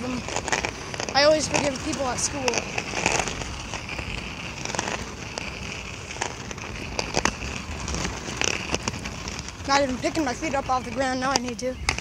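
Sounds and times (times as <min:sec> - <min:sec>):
skate wheels rolling on pavement: 0:00.0 - 0:12.0.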